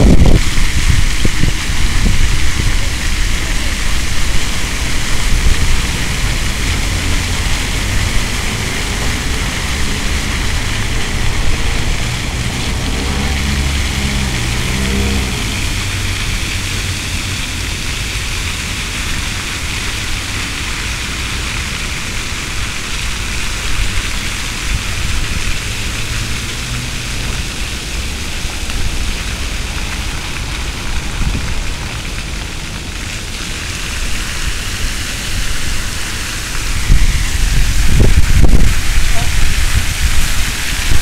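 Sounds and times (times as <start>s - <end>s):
fountain water splashing: 0.0s - 41.0s
wind rumbling on microphone: 0.0s - 41.0s.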